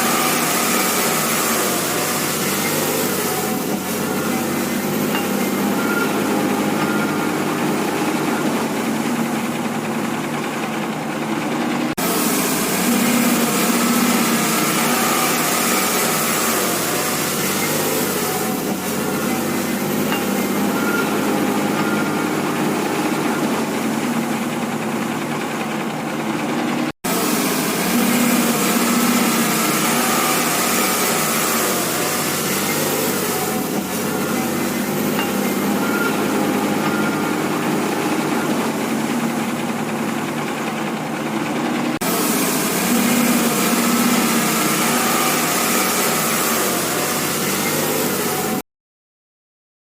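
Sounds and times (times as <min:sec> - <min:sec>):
engine running: 0:00.0 - 0:48.6.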